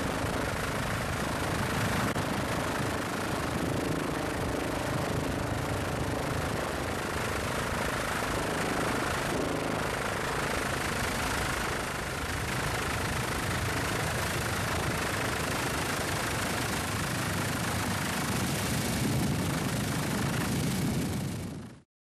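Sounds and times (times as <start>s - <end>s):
helicopter rotor and engine: 0.0s - 21.8s.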